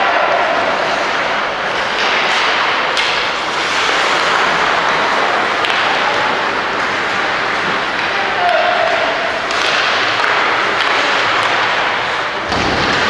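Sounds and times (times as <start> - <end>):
arena noise: 0.0 - 13.0.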